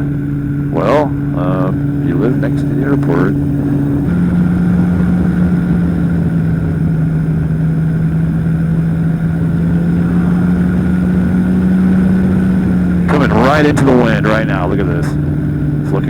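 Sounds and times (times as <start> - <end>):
engine and propeller running: 0.0 - 16.0.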